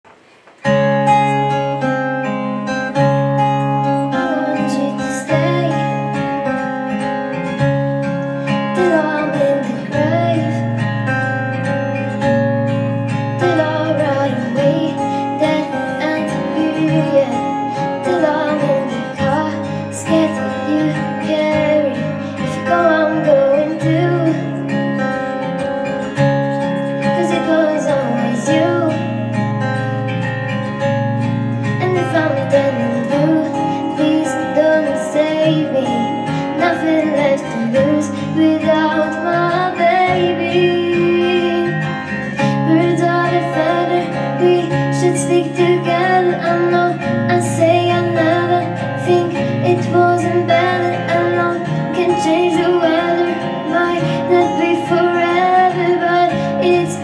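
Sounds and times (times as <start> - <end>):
acoustic guitar strumming: 0.1 - 57.0.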